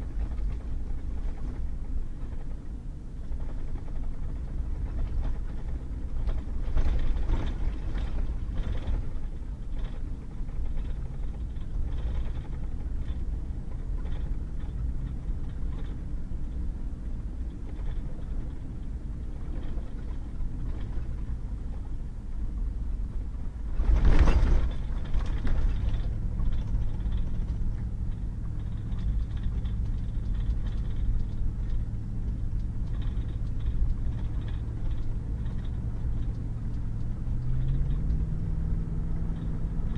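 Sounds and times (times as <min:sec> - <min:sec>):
low engine hum: 0:00.0 - 0:39.9
truck engine and tyres rumbling: 0:00.0 - 0:39.9.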